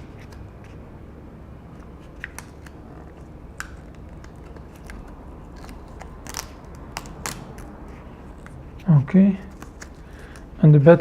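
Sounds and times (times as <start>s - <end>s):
sticker being peeled: 0.0s - 0.8s, 1.7s - 10.5s.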